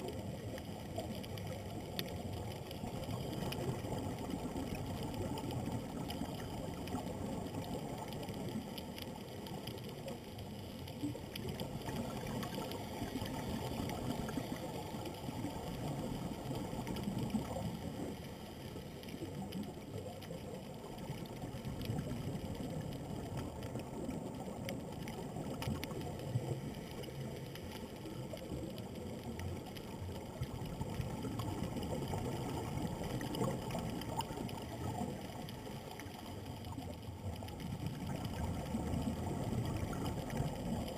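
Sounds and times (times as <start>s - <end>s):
faint clicks: 0.0s - 40.9s
muffled underwater rush: 0.0s - 40.9s.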